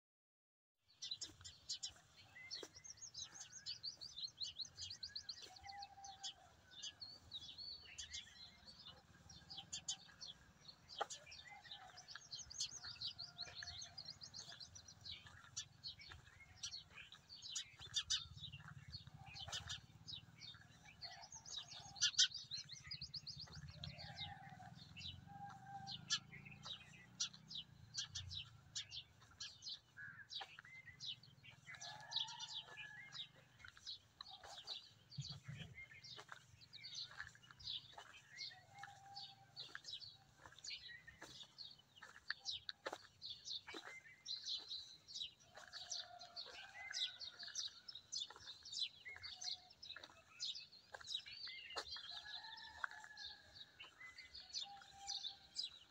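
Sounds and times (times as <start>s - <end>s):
sparrows chirping: 0.9s - 55.9s.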